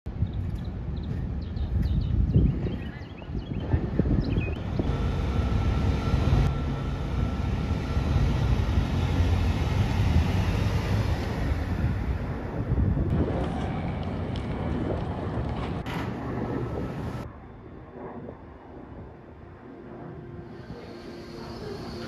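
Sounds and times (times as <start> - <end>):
wind buffeting microphone: 0.1 - 21.9
low rumble of traffic: 0.1 - 22.0.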